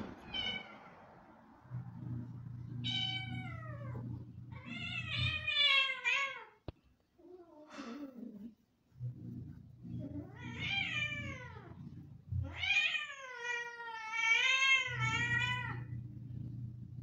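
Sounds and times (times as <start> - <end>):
low steady hum: 0.0 - 5.9, 7.2 - 13.2, 14.5 - 17.0.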